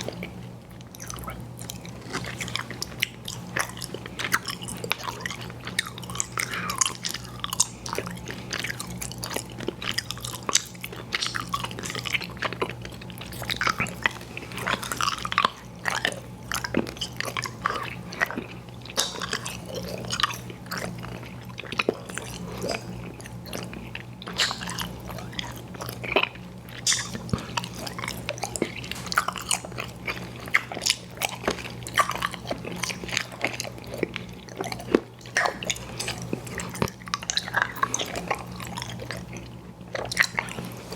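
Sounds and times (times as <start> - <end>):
chewing candy with wet smacks: 0.0 - 40.9.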